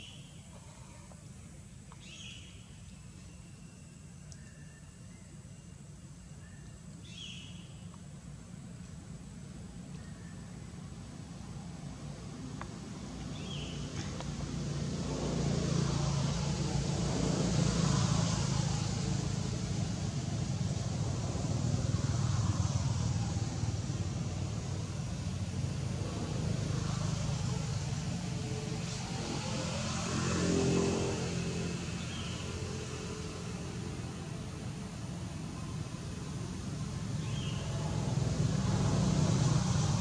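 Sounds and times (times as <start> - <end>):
steady low hum: 0.0 - 40.0
vehicles passing: 7.0 - 40.0.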